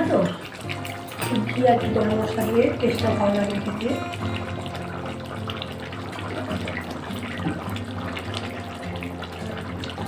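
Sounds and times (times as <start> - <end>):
thick gravy bubbling: 0.0 - 10.0.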